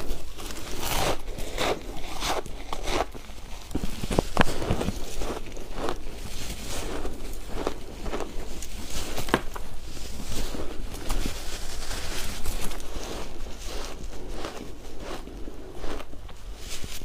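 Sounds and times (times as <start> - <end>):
chewing shaved ice crunches: 0.0 - 11.3, 12.2 - 17.0.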